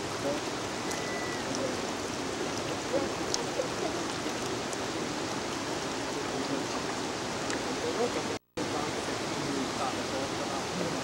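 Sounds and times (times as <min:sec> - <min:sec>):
water rushing in rocky stream: 0:00.0 - 0:11.0.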